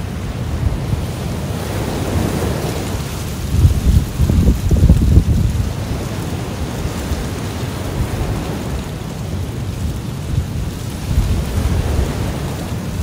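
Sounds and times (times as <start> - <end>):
ocean surf washing ashore: 0.0 - 13.0
wind buffeting microphone: 0.0 - 13.0.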